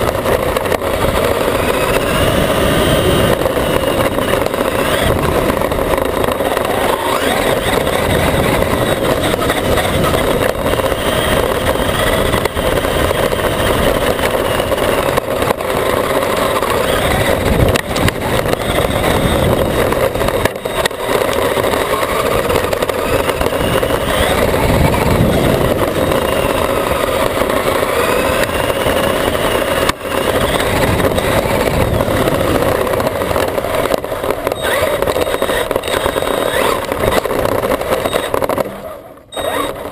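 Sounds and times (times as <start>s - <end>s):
drivetrain tyre and wind noise: 0.0s - 39.9s
electric motor whine: 0.0s - 39.9s
toy truck knocking as it bounces: 0.0s - 39.9s.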